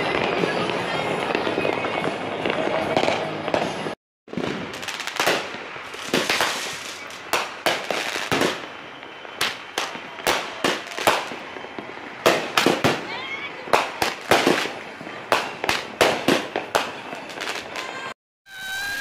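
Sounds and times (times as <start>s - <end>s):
fireworks bangs and crackles: 0.0s - 18.8s.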